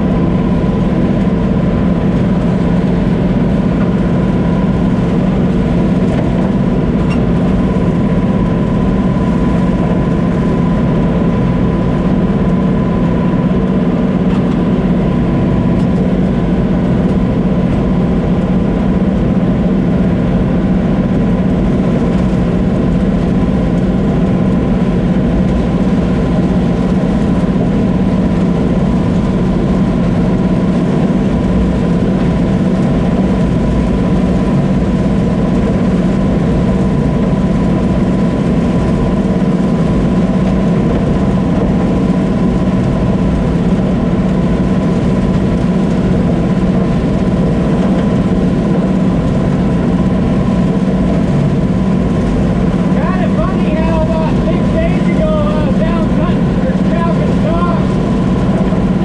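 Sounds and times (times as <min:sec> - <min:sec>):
combine harvester engine drone: 0:00.0 - 0:59.0
thin steady whine: 0:00.0 - 0:59.0.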